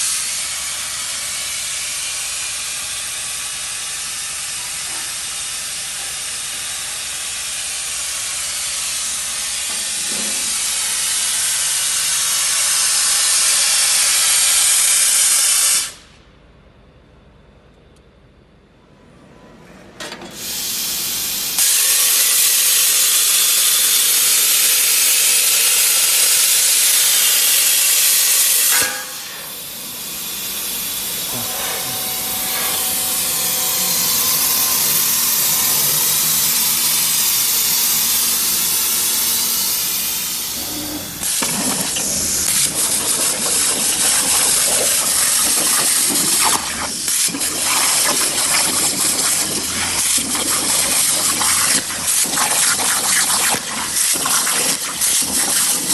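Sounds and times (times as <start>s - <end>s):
plasma torch hissing: 0.0s - 16.0s, 20.4s - 55.9s.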